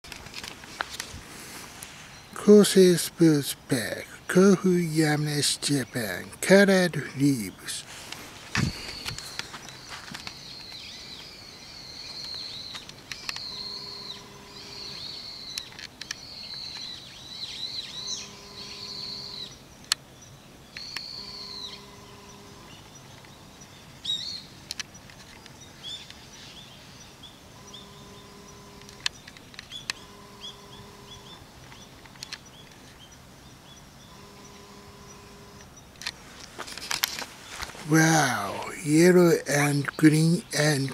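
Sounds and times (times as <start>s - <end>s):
birds warbling and chirping: 1.4s - 25.1s, 25.7s - 40.9s.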